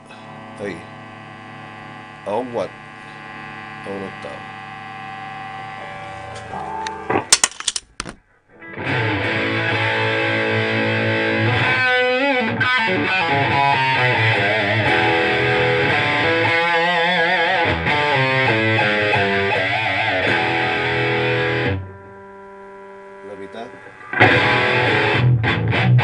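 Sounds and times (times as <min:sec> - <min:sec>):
distorted electric guitar: 0:00.0 - 0:07.8, 0:08.5 - 0:26.0.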